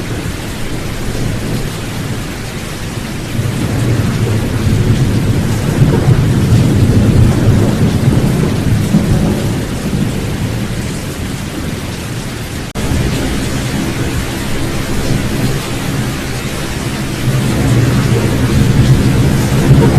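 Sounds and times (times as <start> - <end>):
low rolling thunder: 0.0 - 19.9
steady rain: 0.0 - 19.9.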